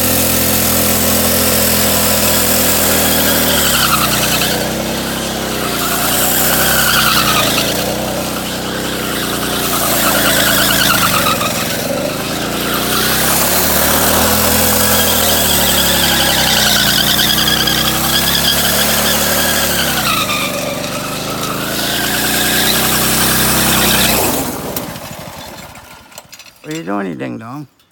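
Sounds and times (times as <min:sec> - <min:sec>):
engine running: 0:00.0 - 0:27.9.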